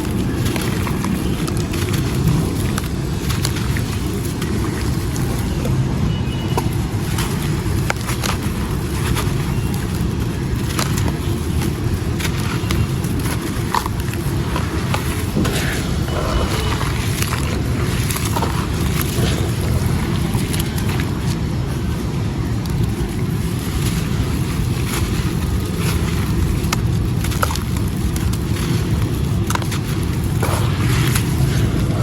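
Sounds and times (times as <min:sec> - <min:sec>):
wet stone chunks crumbling: 0:00.0 - 0:32.0.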